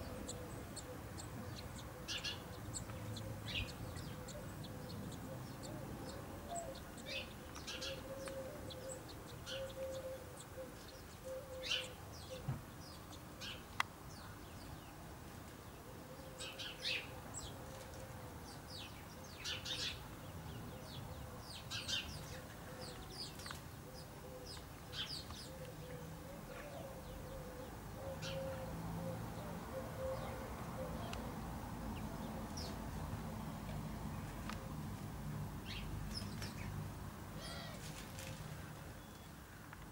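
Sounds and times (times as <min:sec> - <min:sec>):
sparrows chirping: 0:00.0 - 0:15.0, 0:15.6 - 0:34.8, 0:35.5 - 0:39.4.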